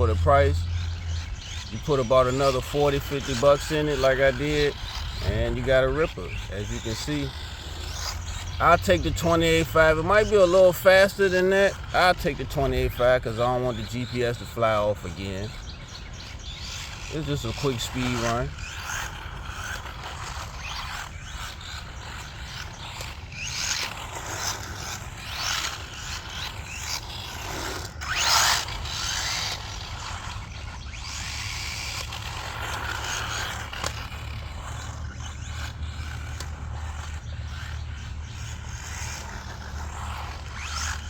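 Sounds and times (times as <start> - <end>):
drivetrain and tyres rattling: 0.0 - 41.0
electric motor whining: 0.0 - 41.0.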